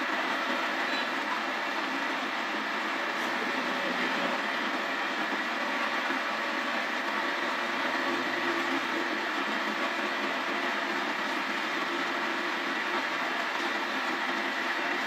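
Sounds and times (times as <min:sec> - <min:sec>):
wood lathe whirring: 0:00.0 - 0:15.0.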